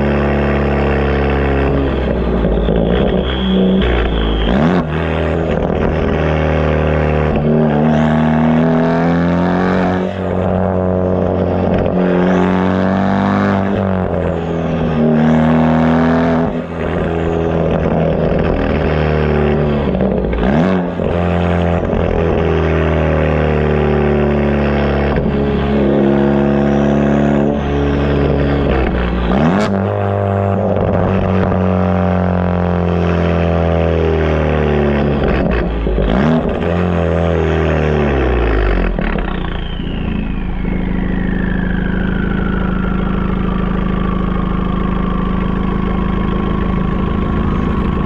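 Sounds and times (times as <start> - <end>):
car exhaust revving: 0.0 - 48.0.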